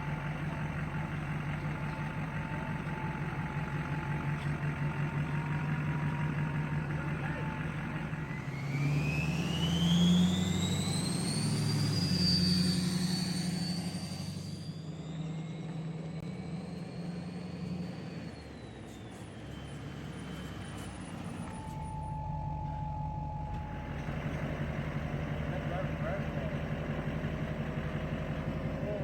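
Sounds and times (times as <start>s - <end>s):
truck engine accelerating: 0.0s - 29.0s.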